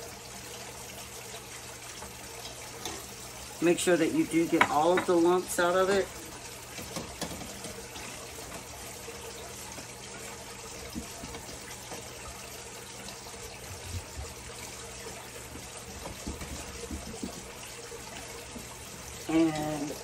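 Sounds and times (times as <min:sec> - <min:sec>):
roux sizzling in a saucepan: 0:00.0 - 0:20.0.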